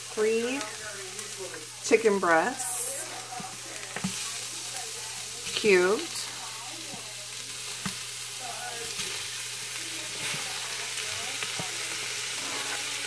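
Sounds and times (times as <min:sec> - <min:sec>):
chicken and onion sizzling in oil: 0:00.0 - 0:13.0.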